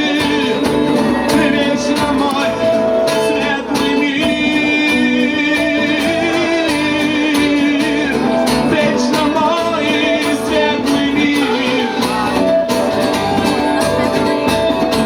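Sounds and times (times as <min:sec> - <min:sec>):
live band playing: 0:00.0 - 0:15.0
wavering melody notes: 0:00.0 - 0:15.0.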